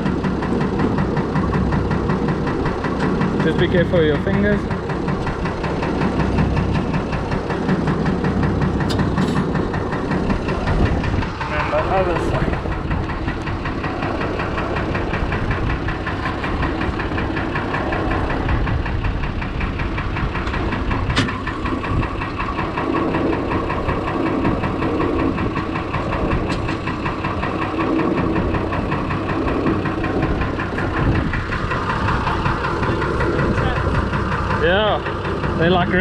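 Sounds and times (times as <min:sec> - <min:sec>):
diesel tractor engine idling: 0:00.0 - 0:36.0.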